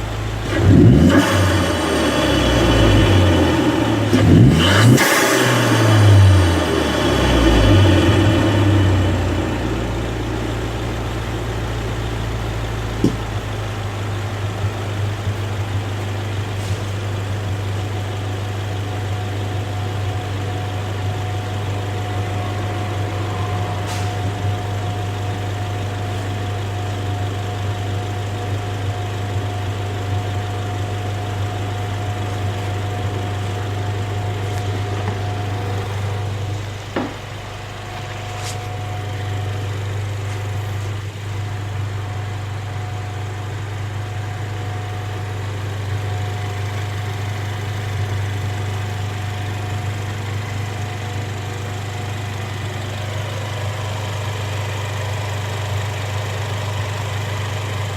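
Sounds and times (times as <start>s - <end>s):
car engine revving and idling: 0.0s - 57.9s.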